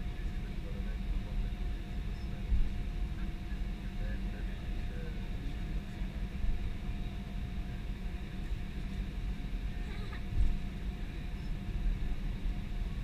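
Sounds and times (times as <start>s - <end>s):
aircraft cabin rumble: 0.0s - 13.0s
faint steady hum: 0.0s - 13.0s.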